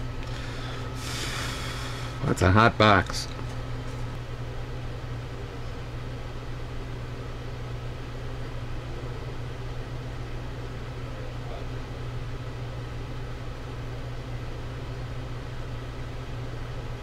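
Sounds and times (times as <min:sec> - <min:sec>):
faint fan hiss: 0:00.0 - 0:17.0
low electrical hum: 0:00.0 - 0:17.0.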